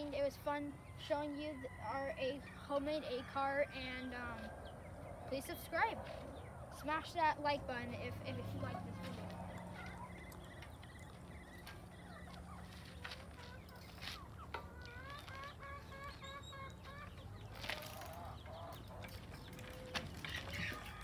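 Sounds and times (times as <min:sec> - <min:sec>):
chickens clucking: 0:00.5 - 0:21.0.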